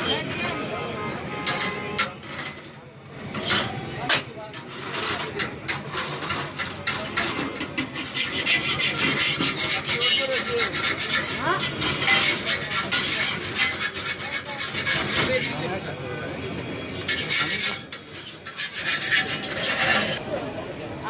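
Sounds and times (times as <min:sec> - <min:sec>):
cloth scraping hot griddle: 0:01.5 - 0:15.8, 0:17.0 - 0:20.2.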